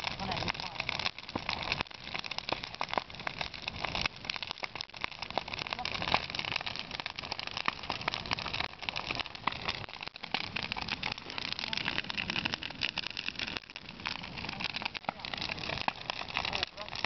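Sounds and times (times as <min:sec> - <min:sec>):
bonfire crackling and popping: 0:00.0 - 0:17.0
rush of flame: 0:00.0 - 0:17.0.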